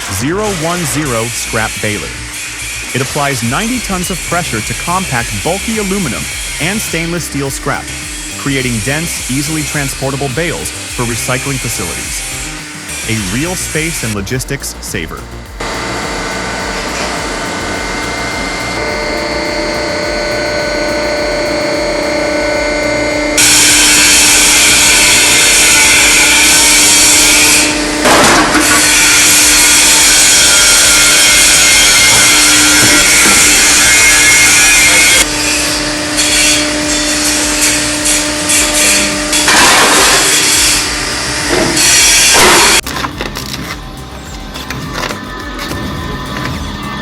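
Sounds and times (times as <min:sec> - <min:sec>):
heavy industrial machine humming: 0:00.0 - 0:47.0.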